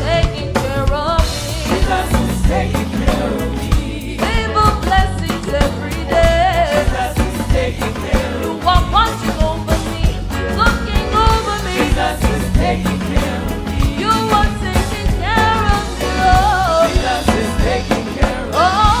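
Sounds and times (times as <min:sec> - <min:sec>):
gospel band playing: 0:00.0 - 0:19.0.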